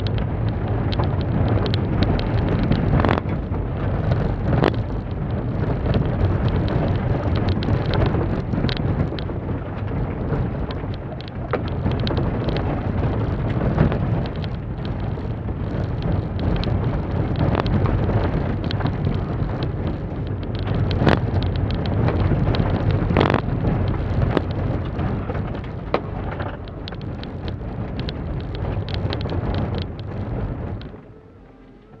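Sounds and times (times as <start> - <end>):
stones ticking against car: 0.0 - 31.0
car engine under load: 0.0 - 32.0.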